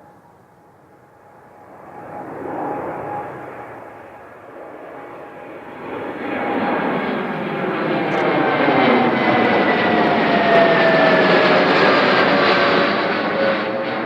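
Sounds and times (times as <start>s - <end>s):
jet airliner engines passing: 0.0s - 14.0s.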